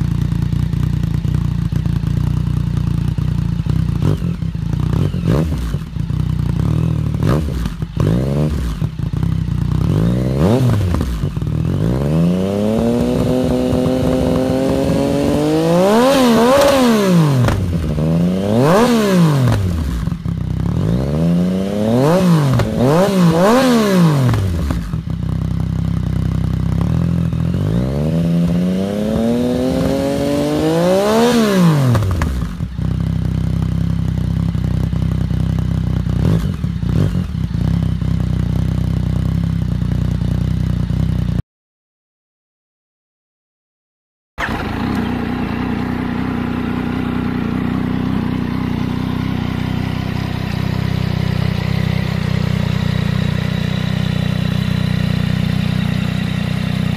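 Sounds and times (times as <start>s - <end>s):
motorcycle engine revving and idling: 0.0s - 41.4s, 44.4s - 56.9s.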